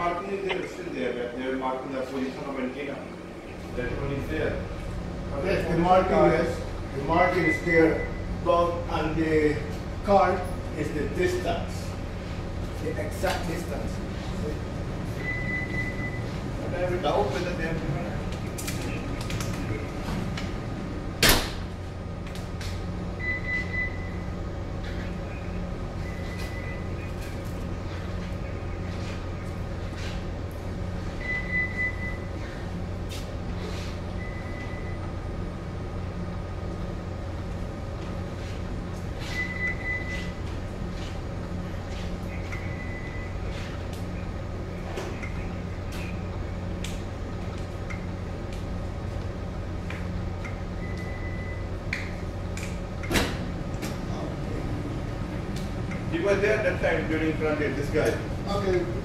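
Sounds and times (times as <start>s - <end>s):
low hum of ship machinery: 0.0s - 59.0s.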